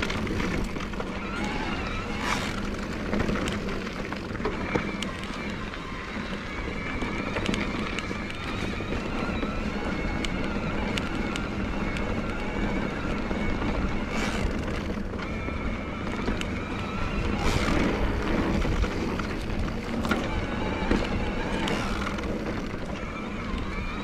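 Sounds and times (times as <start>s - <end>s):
electric bike motor whining: 0.0s - 24.0s
sharp clicks from bike: 0.0s - 24.0s.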